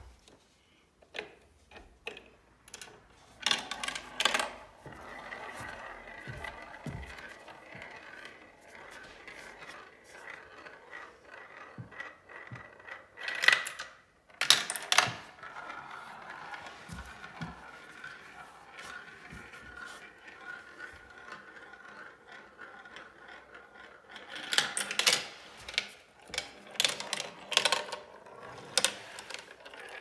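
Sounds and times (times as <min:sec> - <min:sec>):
marble rolling on plastic track: 0:01.1 - 0:30.0.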